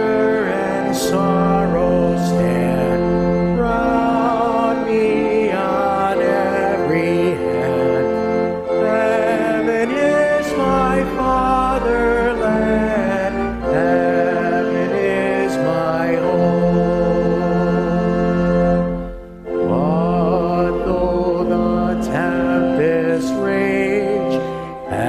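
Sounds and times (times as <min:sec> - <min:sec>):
voices singing along: 0:00.0 - 0:18.6, 0:19.6 - 0:25.0
church organ playing a hymn: 0:00.0 - 0:25.0.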